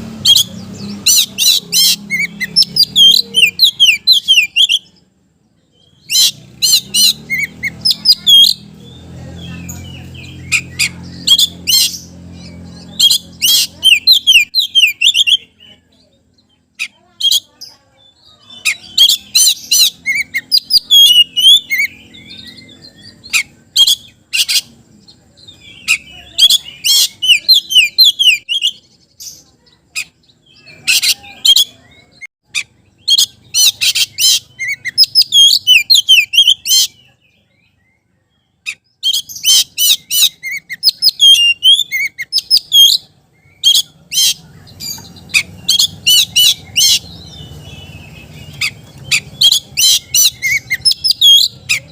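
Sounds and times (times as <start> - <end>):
bird singing whistles and chatter: 0.0 - 51.9.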